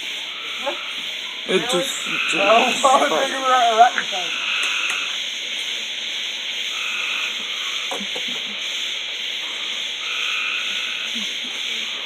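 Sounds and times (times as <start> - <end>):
frog calls: 0.0 - 12.0
insects trilling: 0.0 - 12.0.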